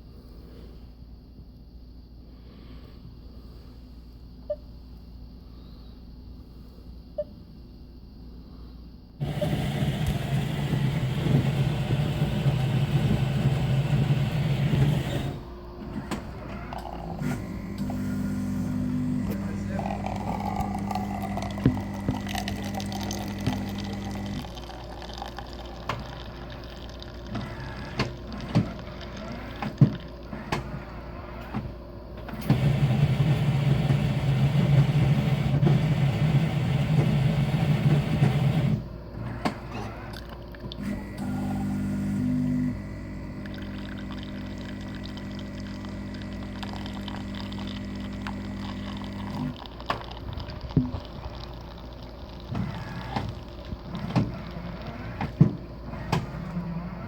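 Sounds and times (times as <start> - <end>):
coffee machine hum: 9.0 - 57.0
coffee machine buzz: 9.2 - 57.0.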